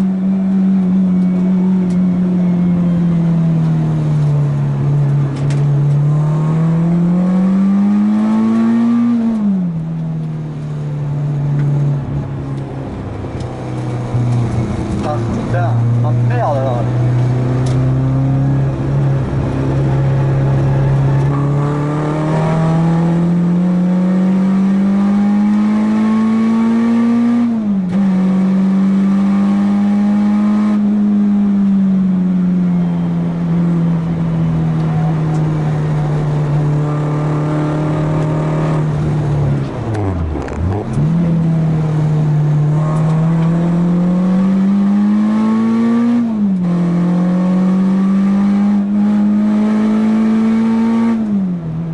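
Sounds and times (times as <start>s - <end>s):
car engine revving hard: 4.5s - 9.8s, 13.7s - 32.1s, 33.2s - 51.7s.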